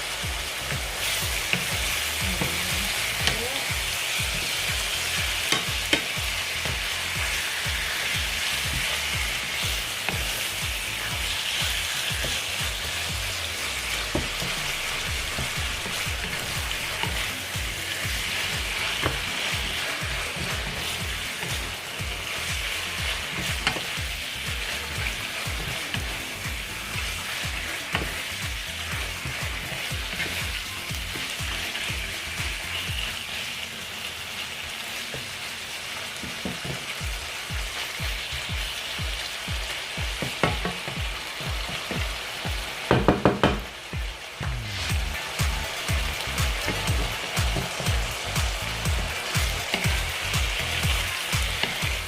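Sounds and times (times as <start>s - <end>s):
chicken sizzling in frying pan: 0.0s - 52.0s.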